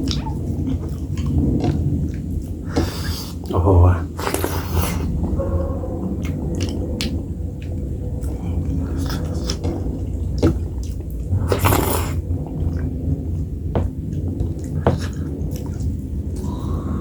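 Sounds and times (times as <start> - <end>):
wet chewing: 0.0 - 3.5, 6.1 - 17.0.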